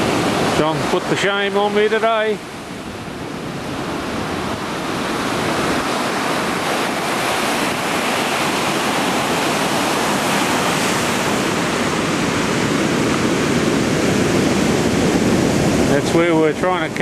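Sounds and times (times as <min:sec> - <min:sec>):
ocean surf on rocky shore: 0:00.0 - 0:17.0.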